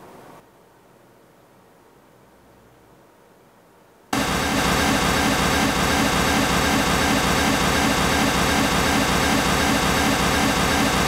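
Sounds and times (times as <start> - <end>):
pink noise hiss: 0.0 - 11.0.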